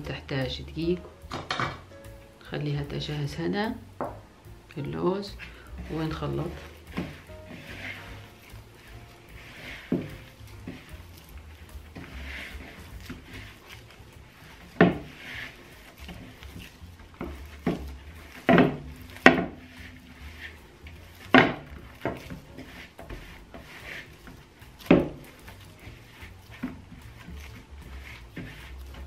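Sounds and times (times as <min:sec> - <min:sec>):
faint rubbing of dough: 0:00.0 - 0:29.0.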